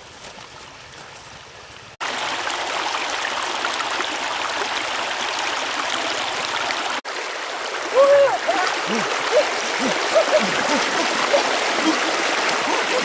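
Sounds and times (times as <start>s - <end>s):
stream water rushing over stones: 0.0s - 13.0s.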